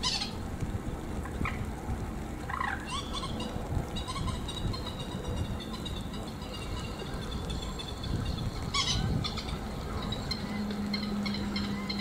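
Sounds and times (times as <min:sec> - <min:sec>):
bird calls: 0:00.0 - 0:00.4, 0:02.4 - 0:12.0
rain: 0:00.0 - 0:12.0
wind: 0:00.0 - 0:12.0.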